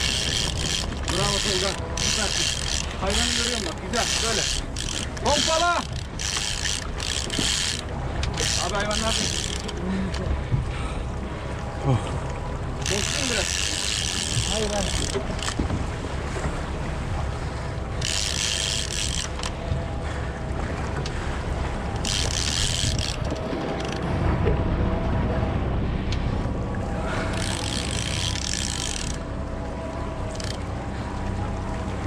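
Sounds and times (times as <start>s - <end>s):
boat motor running low: 0.0s - 32.0s
water noise: 0.0s - 32.0s
wind: 0.0s - 32.0s.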